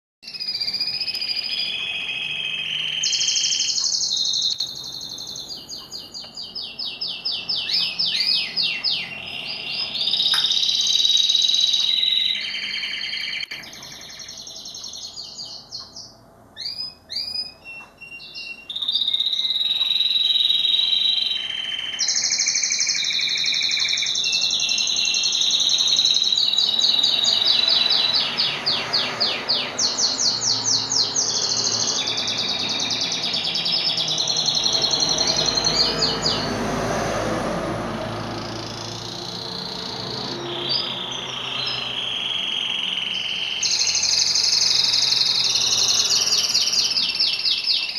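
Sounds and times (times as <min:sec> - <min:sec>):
canary singing trills: 0:00.2 - 0:37.0, 0:38.0 - 0:47.9.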